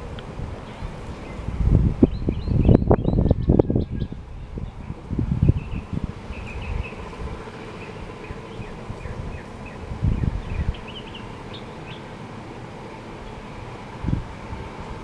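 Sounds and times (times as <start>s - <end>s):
wind rumble on microphone: 0.0s - 12.1s, 13.1s - 15.0s
songbird singing chirps: 0.0s - 15.0s.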